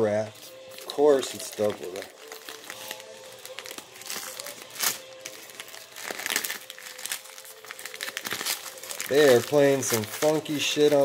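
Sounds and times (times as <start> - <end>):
packaging wrap crinkling: 0.4 - 11.0
wrap ripping: 1.3 - 11.0.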